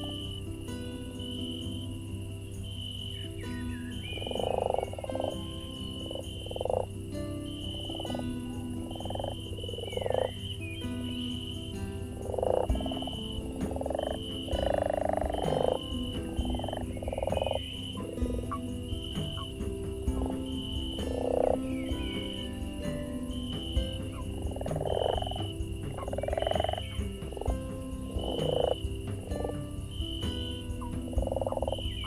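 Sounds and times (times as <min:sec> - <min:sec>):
high insect-like trill: 0:00.0 - 0:32.0
rasping croaking calls: 0:02.6 - 0:32.0.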